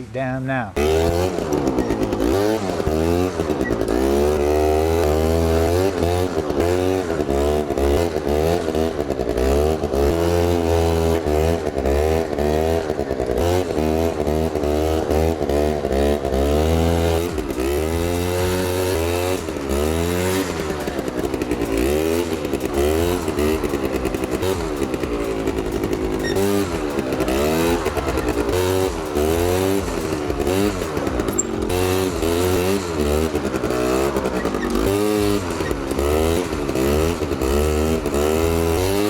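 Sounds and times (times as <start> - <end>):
quad engine revving: 0.0 - 39.0.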